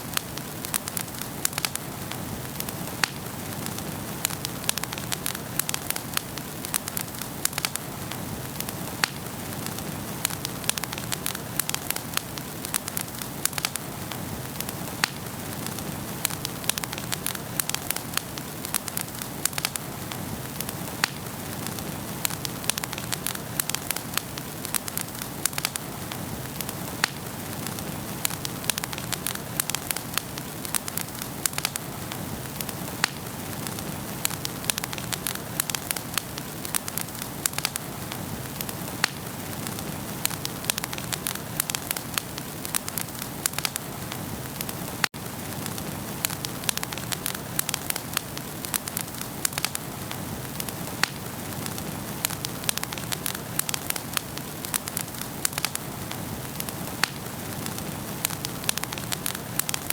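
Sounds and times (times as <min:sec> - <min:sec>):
fire flames hissing: 0:00.0 - 0:59.9
logs crackling and popping: 0:00.0 - 0:59.9.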